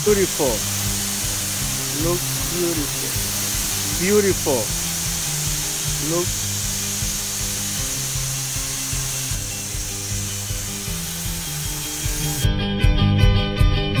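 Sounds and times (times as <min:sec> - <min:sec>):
pressure washer spraying: 0:00.0 - 0:12.5
guitar music: 0:00.0 - 0:14.0.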